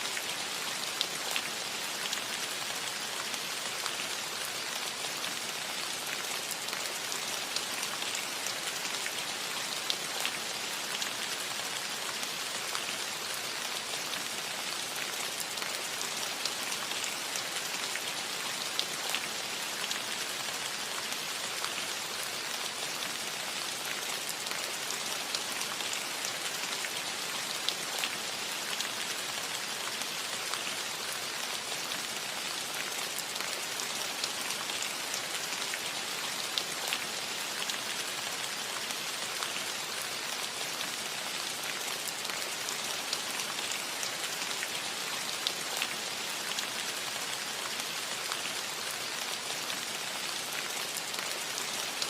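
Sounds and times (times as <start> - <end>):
light rain on a metal roof: 0.0 - 52.0.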